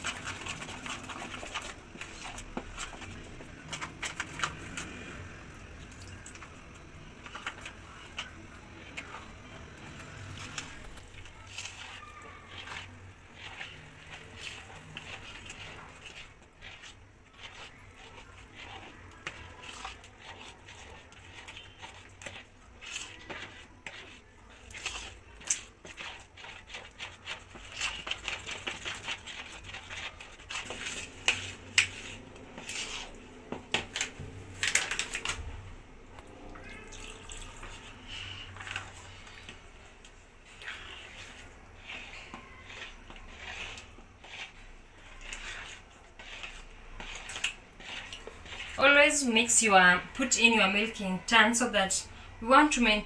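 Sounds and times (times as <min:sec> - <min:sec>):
spatula scraping batter in bowl: 0:00.0 - 0:35.5, 0:37.5 - 0:53.0.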